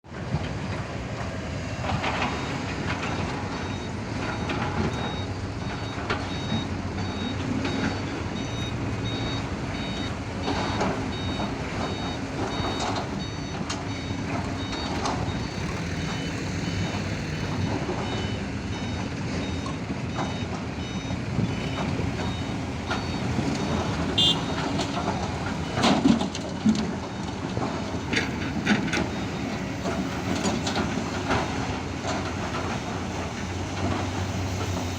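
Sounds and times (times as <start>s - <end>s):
diesel engines running: 0.0s - 34.9s
reversing alarm beeping: 1.8s - 26.3s, 26.9s - 34.9s.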